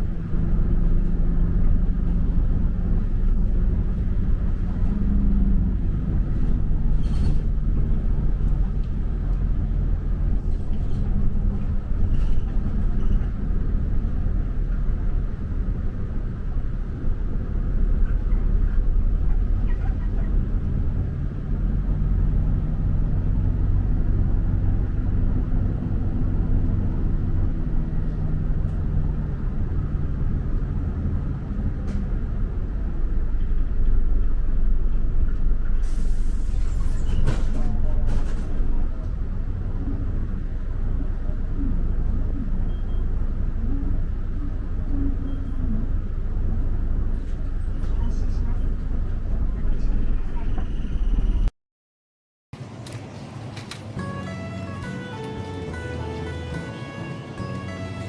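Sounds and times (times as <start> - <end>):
traffic engine rumble: 0.0 - 51.6, 52.6 - 58.0.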